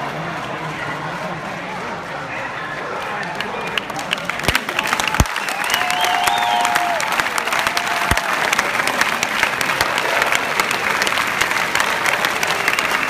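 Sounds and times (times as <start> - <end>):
large crowd applauding: 0.0 - 13.0.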